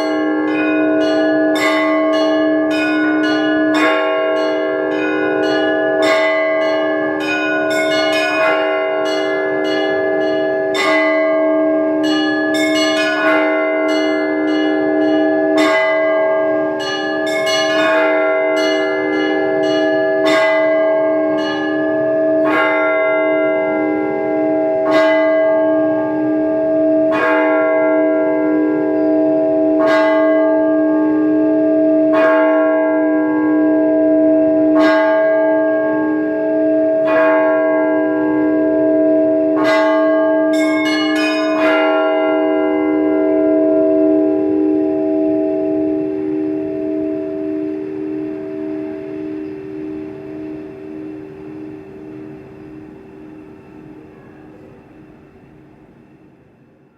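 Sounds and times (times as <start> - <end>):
struck bell chords: 0.0 - 54.6
deep bells humming: 0.0 - 56.2.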